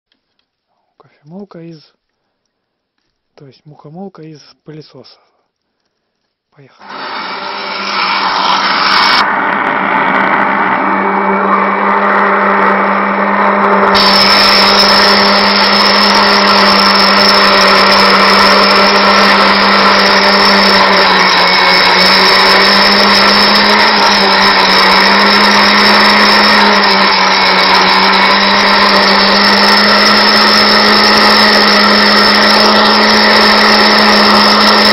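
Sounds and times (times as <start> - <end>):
vacuum motor flour mill running: 6.8 - 34.9.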